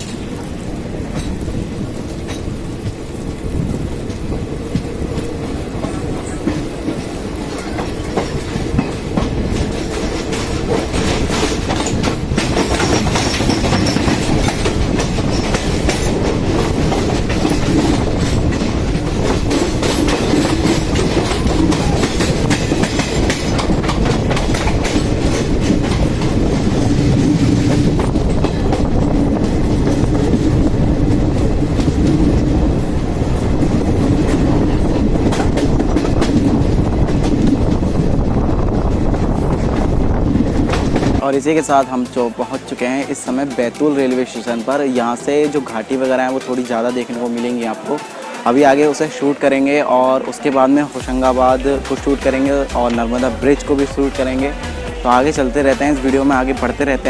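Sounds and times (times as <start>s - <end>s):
rumble of moving coaches: 0.0s - 57.0s
train wheels clattering: 0.0s - 57.0s.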